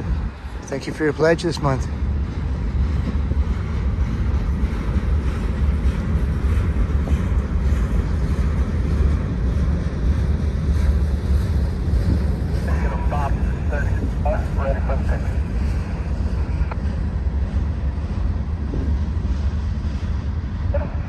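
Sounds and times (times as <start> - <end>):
freight train cars rumbling: 0.0 - 21.0
wind buffeting microphone: 0.0 - 21.0.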